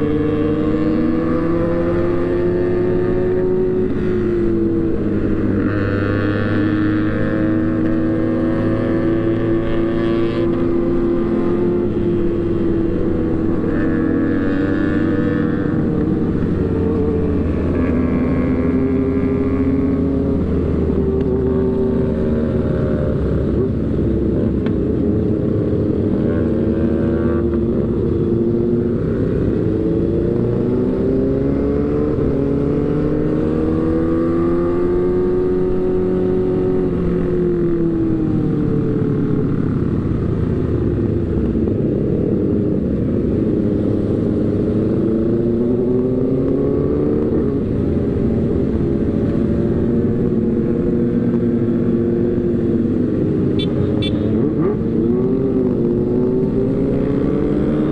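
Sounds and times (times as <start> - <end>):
road and wind noise: 0.0 - 57.9.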